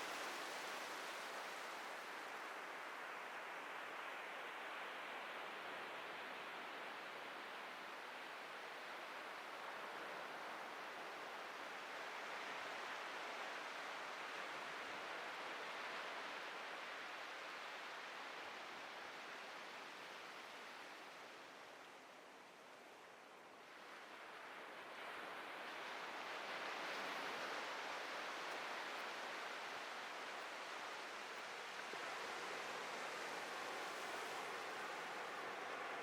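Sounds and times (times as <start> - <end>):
waves breaking on a beach: 0.0 - 36.0.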